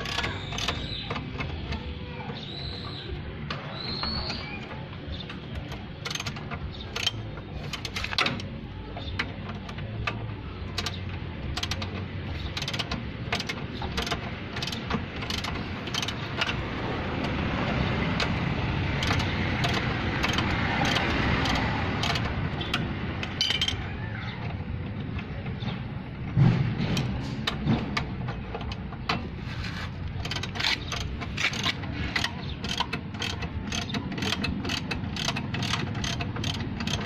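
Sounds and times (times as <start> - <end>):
ratchet wrench clicking: 0.0 - 2.9, 3.7 - 25.4, 26.8 - 37.0.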